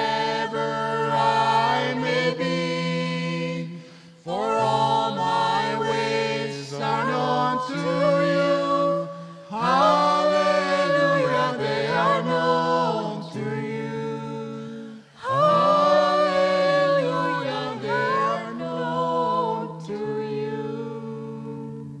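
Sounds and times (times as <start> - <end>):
choir singing a cappella: 0.0 - 22.0.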